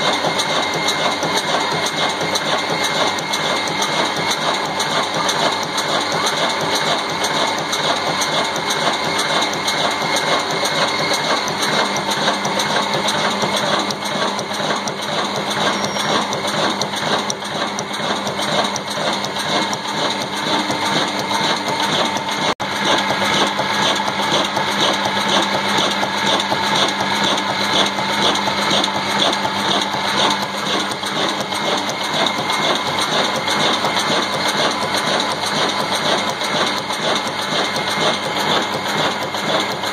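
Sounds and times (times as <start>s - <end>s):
diesel engine rhythmic clatter: 0.0s - 39.9s.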